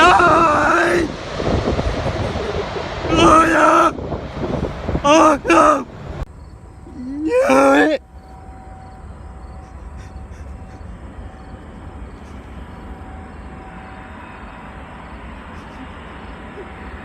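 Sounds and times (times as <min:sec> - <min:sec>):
jet engine rumbling: 0:00.0 - 0:17.0.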